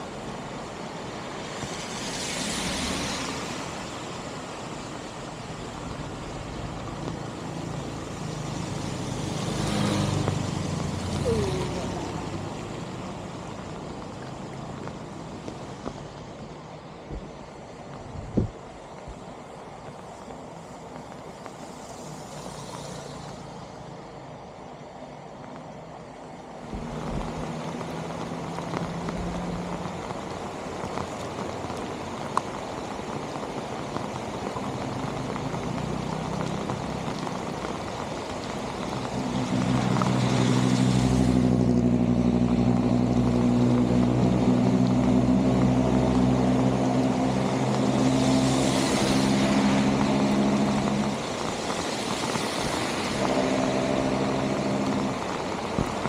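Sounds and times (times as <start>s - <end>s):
continuous rushing noise: 0.0s - 56.0s
vehicle engine humming: 2.3s - 16.3s, 20.3s - 56.0s.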